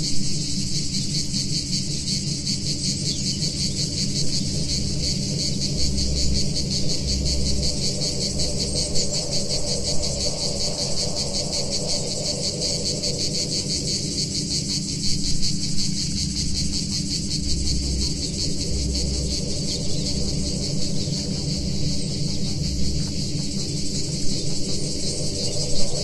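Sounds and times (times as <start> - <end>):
cicada chorus buzzing: 0.0 - 26.0
synth drone: 0.0 - 26.0
low bass notes: 0.3 - 26.0.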